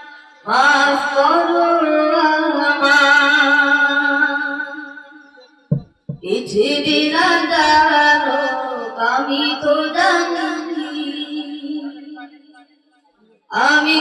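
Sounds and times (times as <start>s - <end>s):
boy singing: 0.0s - 4.8s, 5.7s - 12.3s, 13.5s - 14.0s.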